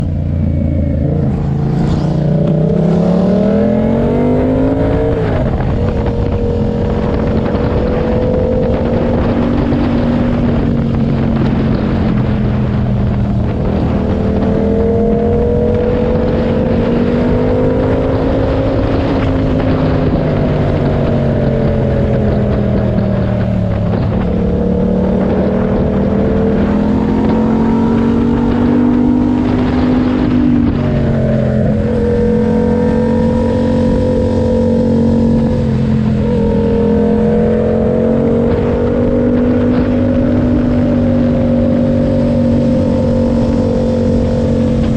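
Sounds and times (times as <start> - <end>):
motorcycle engine revving: 0.0 - 44.9
wind on microphone: 0.0 - 44.9.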